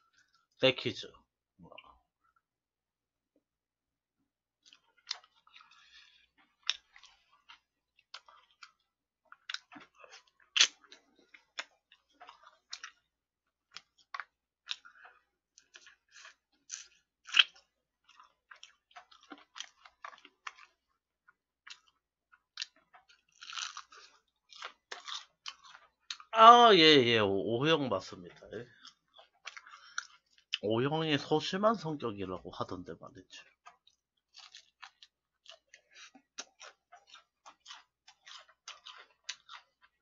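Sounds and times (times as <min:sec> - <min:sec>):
chewing and crunching chicken: 0:04.5 - 0:26.3, 0:27.5 - 0:40.0.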